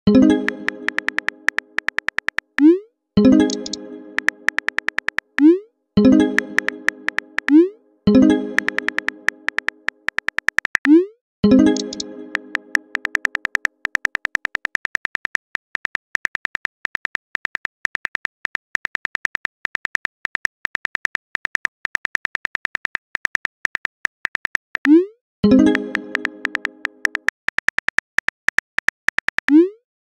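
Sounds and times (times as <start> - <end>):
phone keyboard typing clicks: 0.3 - 2.8, 3.4 - 5.6, 6.2 - 7.8, 8.5 - 11.0, 11.6 - 29.6.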